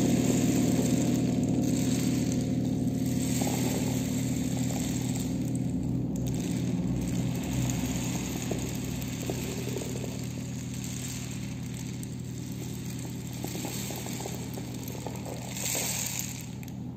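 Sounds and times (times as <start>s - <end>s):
rain drum pellets trickling: 0.0s - 16.9s
steady low hum: 0.0s - 16.9s.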